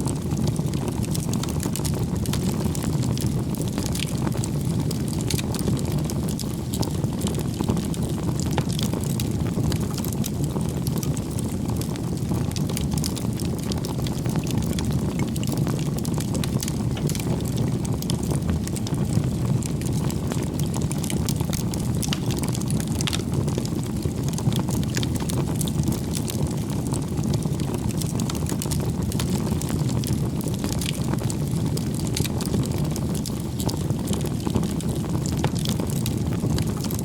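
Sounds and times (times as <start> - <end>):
campfire burning with crackles: 0.0 - 37.0.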